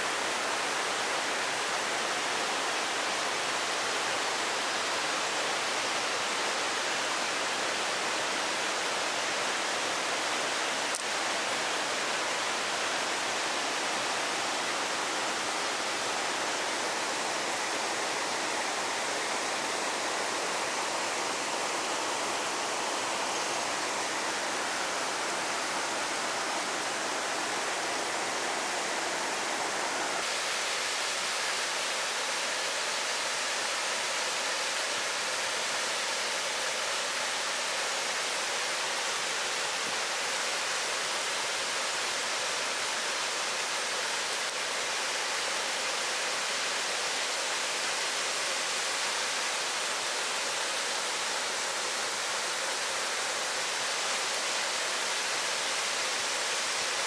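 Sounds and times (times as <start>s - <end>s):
rushing stream water: 0.0s - 57.0s.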